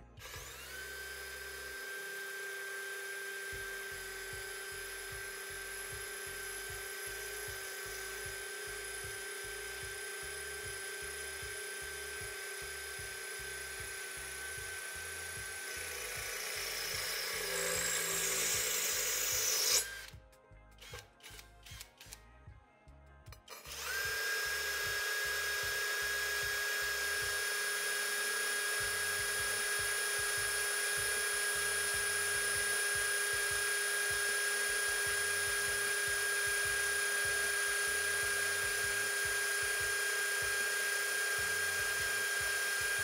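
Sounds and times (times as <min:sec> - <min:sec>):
power drill grinding tile: 0:00.0 - 0:20.2, 0:23.4 - 0:43.0.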